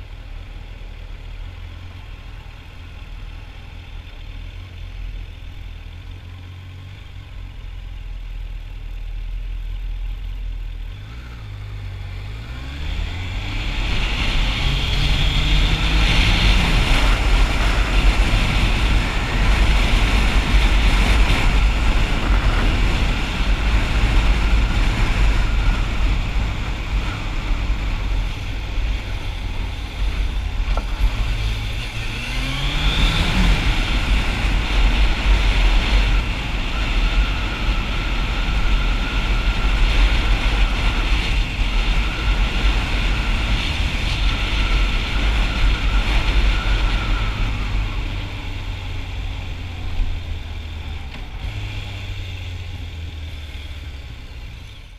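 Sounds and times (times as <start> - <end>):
motorcycle engine: 0.0 - 54.9
rushing wind and road noise: 10.1 - 54.9.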